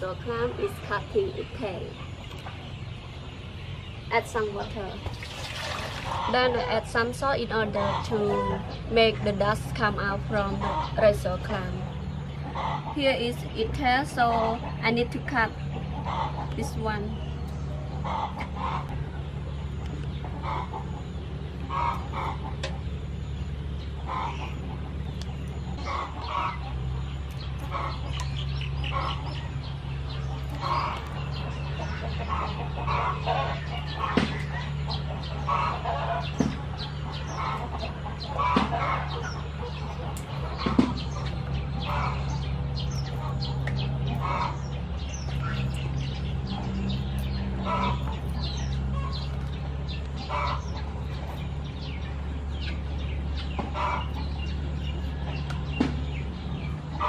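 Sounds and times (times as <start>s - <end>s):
chickens clucking: 0.0s - 57.0s
low steady hum: 0.0s - 57.0s.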